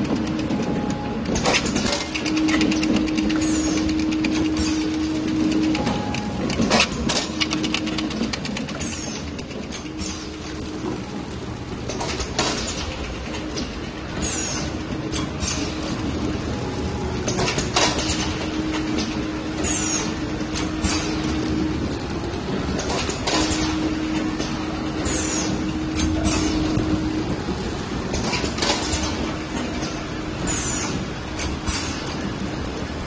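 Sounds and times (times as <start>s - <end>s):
machine mechanical noise: 0.0s - 33.0s.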